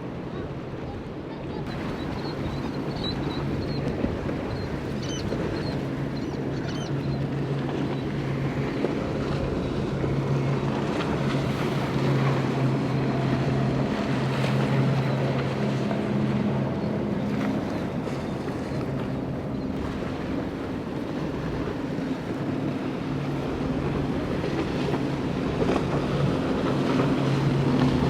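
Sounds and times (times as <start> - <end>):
boat engine droning: 0.0 - 28.0
surf: 0.0 - 28.0
wind: 0.0 - 28.0.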